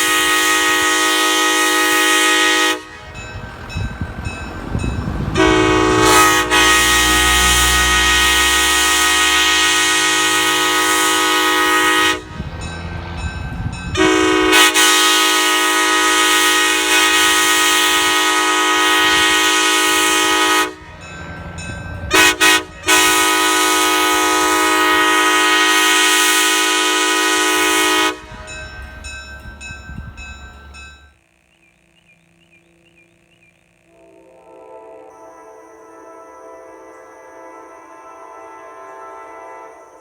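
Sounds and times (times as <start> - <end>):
train horn chord blasts: 0.0 - 30.1, 33.8 - 40.0.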